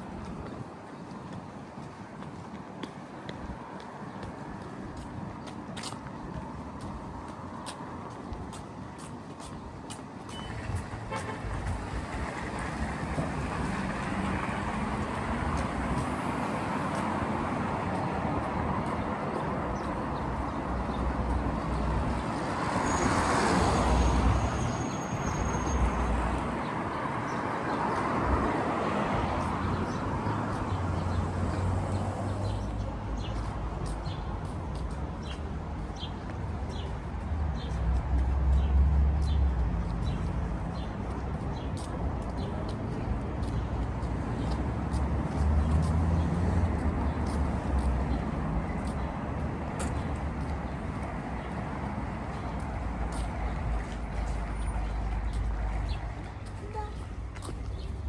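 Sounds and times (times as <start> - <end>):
passing cars and vehicles: 0.0 - 58.0.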